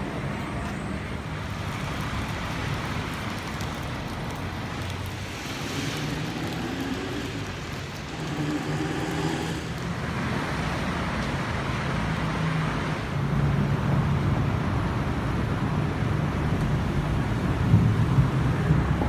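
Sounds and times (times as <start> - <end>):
vehicle engines running: 0.0 - 19.0.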